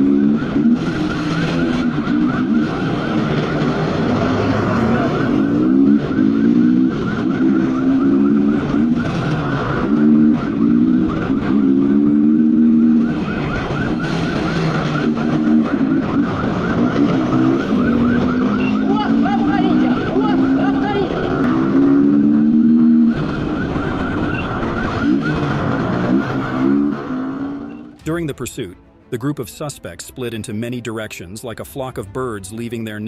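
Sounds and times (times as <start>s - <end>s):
police siren yelping: 0.0s - 28.0s
engine revving: 0.0s - 28.3s.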